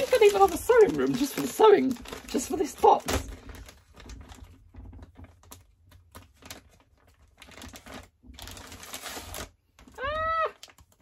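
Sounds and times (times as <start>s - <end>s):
paper packets rustling and tapping: 0.0s - 11.0s.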